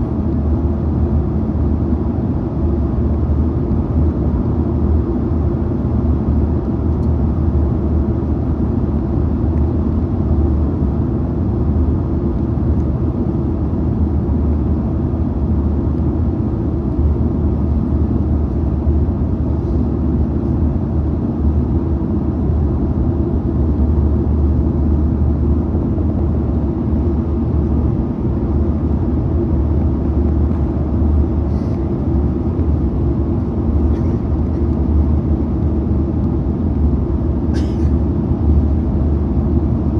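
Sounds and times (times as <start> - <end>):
airplane cabin jet engine rumble: 0.0 - 39.9.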